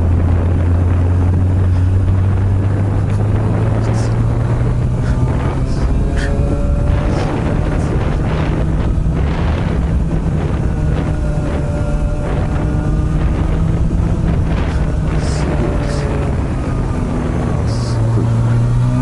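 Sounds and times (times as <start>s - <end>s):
motorcycle exhaust note: 0.0s - 19.0s
wind on microphone: 0.0s - 19.0s.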